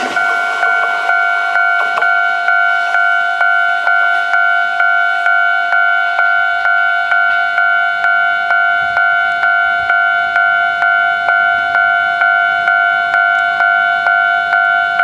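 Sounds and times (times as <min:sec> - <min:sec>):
level crossing bell ringing: 0:00.0 - 0:15.0.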